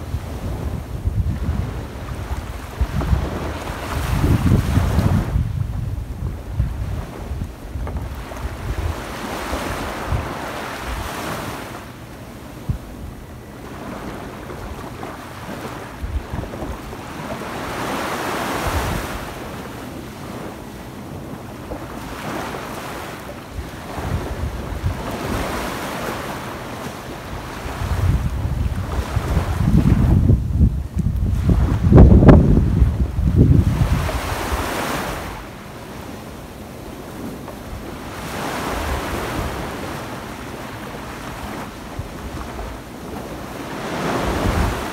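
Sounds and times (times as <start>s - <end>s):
waves washing up beach: 0.0s - 44.9s
wind buffeting microphone: 0.0s - 44.9s.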